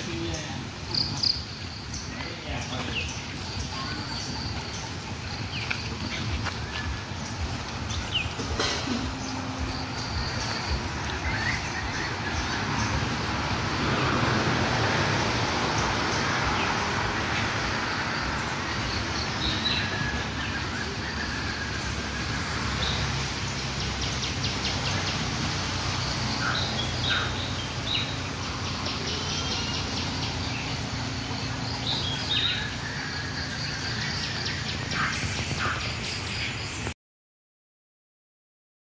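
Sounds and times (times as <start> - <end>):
outdoor background hiss: 0.0 - 36.9
birds chirping: 0.0 - 37.0.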